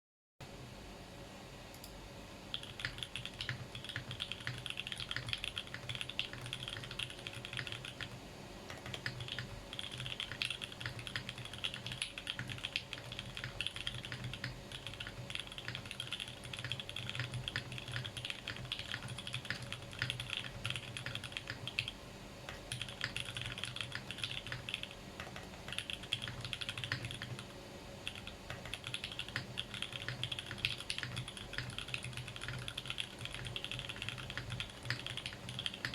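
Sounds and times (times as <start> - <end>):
fast mechanical keyboard typing: 2.5 - 35.9.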